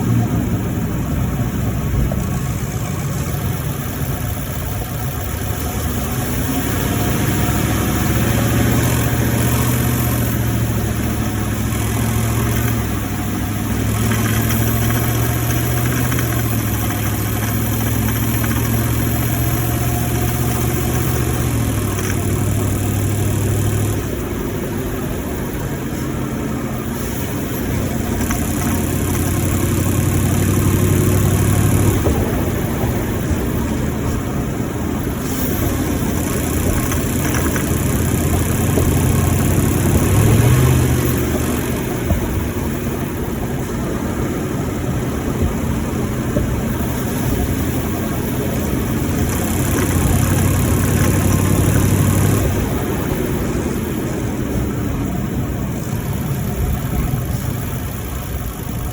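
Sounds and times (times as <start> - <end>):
car engine running while driving: 0.0 - 58.9.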